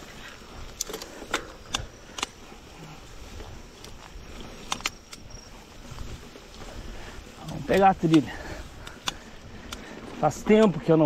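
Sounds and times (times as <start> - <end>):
bike rattling clicks: 0.0 - 11.0
tyres on ground: 0.0 - 11.0.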